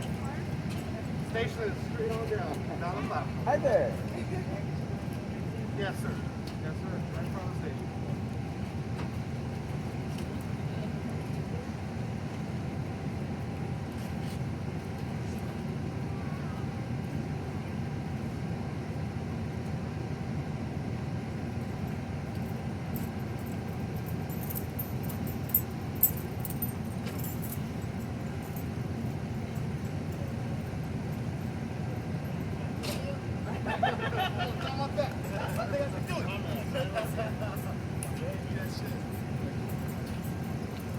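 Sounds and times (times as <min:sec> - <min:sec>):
diesel locomotive idling: 0:00.0 - 0:40.9.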